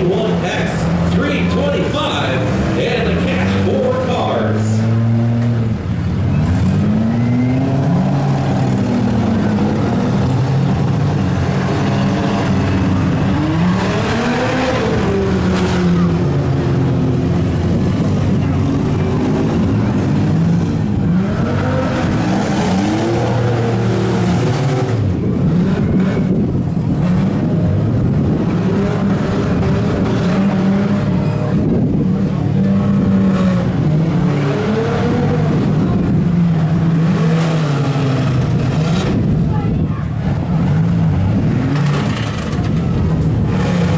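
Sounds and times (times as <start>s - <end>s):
engines revving: 0.0s - 43.9s.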